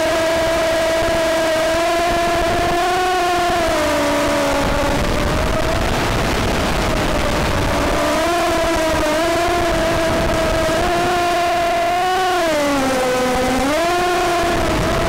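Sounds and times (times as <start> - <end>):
loud static hiss: 0.0 - 15.0
quadcopter motor whine: 0.0 - 15.0.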